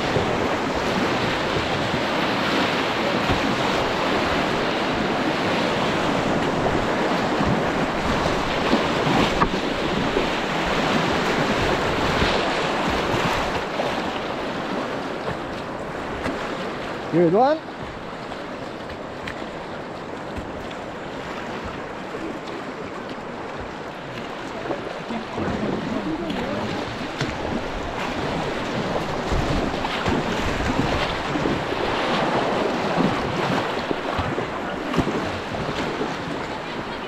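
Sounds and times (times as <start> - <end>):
paddle splashes: 0.0 - 37.0
white-water river rushing: 0.0 - 37.0.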